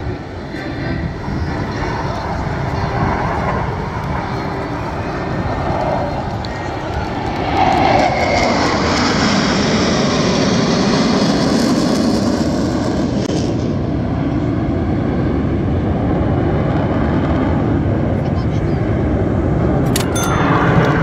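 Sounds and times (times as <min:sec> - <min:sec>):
jet roar: 0:00.0 - 0:21.0.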